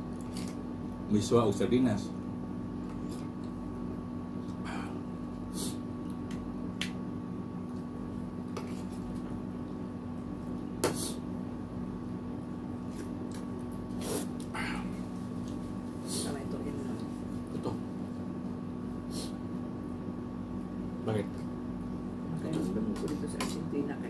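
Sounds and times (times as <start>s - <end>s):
air conditioner hum: 0.0s - 24.0s.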